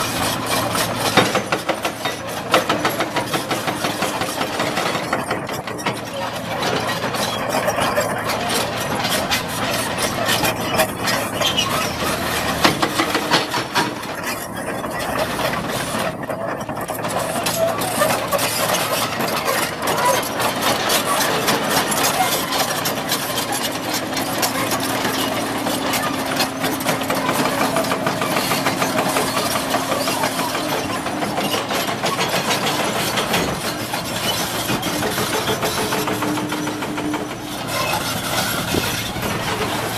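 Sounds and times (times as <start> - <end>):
excavator diesel engine running: 0.0 - 39.9
rapid clatter of knocks and ticks: 0.0 - 39.9.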